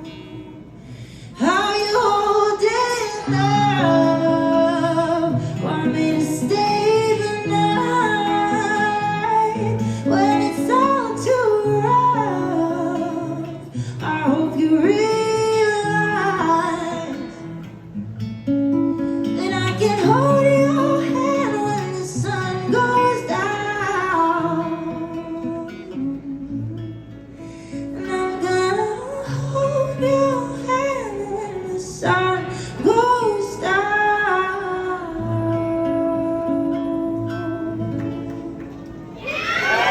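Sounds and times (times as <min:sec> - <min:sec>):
woman singing: 0:00.0 - 0:17.7, 0:18.9 - 0:38.9
guitar: 0:00.0 - 0:39.9.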